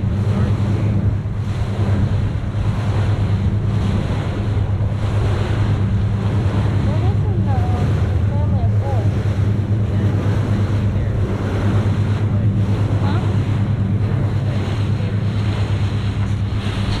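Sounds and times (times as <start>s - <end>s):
boat engine droning: 0.0s - 17.0s
water rushing past: 0.0s - 17.0s
wind buffeting microphone: 0.0s - 17.0s.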